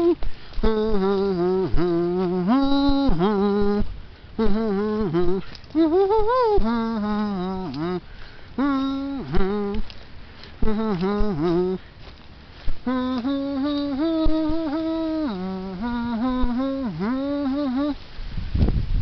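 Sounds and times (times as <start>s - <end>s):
person humming a slow tune: 0.0s - 18.1s.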